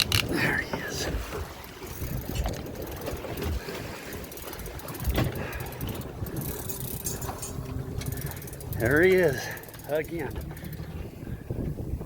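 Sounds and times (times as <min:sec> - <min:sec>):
boat motor hum: 0:00.0 - 0:12.0
water: 0:00.0 - 0:12.0
wind: 0:00.0 - 0:12.0.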